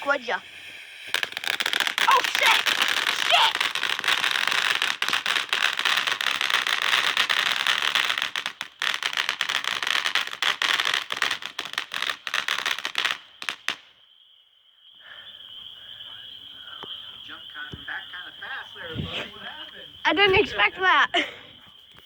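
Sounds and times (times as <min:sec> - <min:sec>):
firework hiss: 0:00.0 - 0:13.9, 0:15.6 - 0:21.2
firework fountain crackling: 0:00.0 - 0:14.0, 0:16.6 - 0:21.3.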